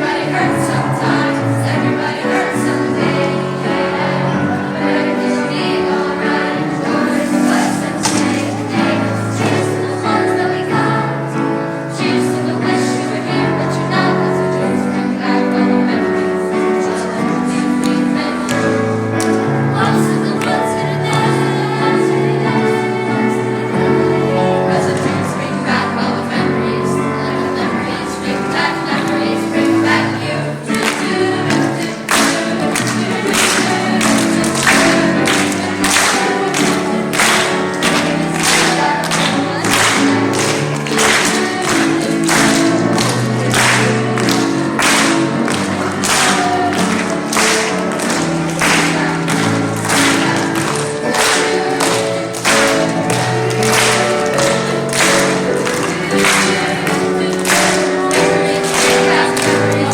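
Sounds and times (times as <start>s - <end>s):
choir singing long notes: 0.0s - 59.9s.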